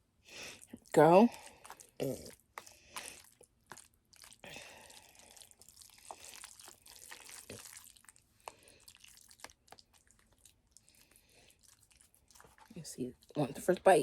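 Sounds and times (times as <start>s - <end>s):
slurping and wet mouth smacks: 0.5s - 13.4s.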